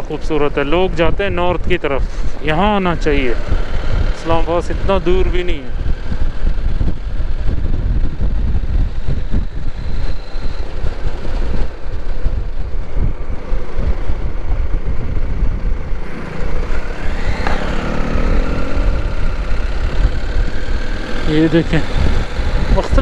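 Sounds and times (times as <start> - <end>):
motorcycle engine running: 0.0 - 23.0
pitched whine: 0.0 - 23.0
wind buffeting microphone: 0.0 - 23.0.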